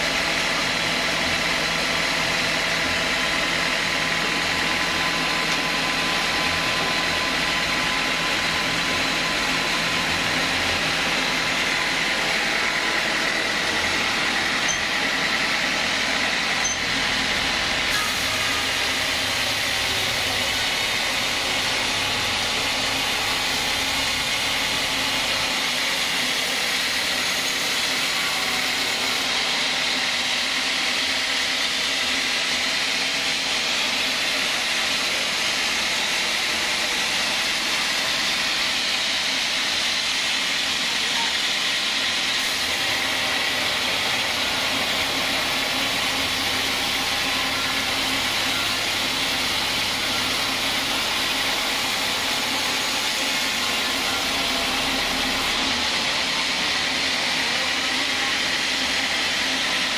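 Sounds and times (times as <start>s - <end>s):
sawmill machine running: 0.0s - 59.9s.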